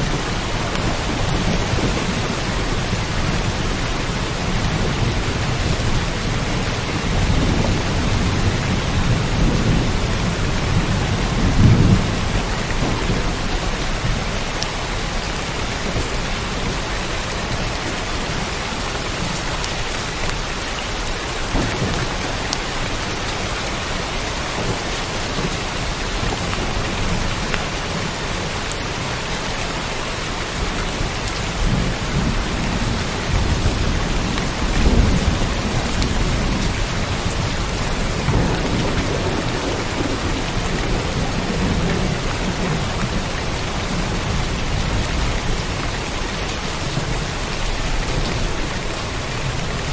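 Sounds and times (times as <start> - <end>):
thunder rumbling: 0.0 - 28.6, 30.2 - 49.9
steady rain: 0.0 - 49.9.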